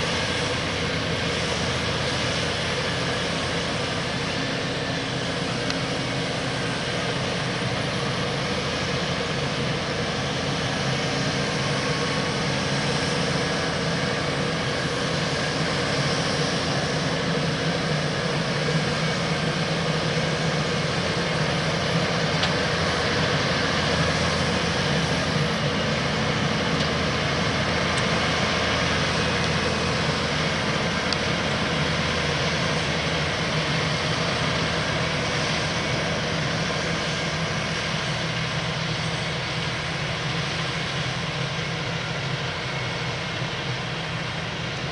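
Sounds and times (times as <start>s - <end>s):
tractor engine drone under load: 0.0s - 44.9s.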